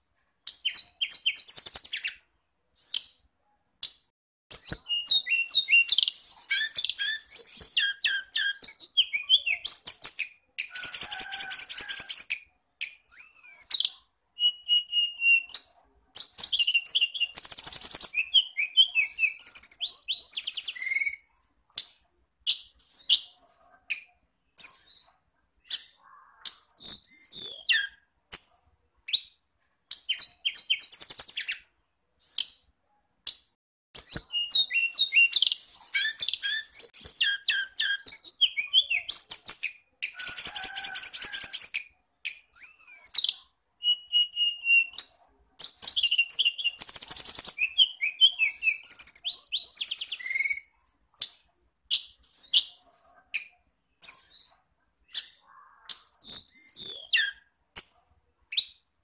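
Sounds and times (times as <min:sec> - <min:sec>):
songbird singing: 0:00.5 - 0:32.7, 0:33.3 - 0:58.9.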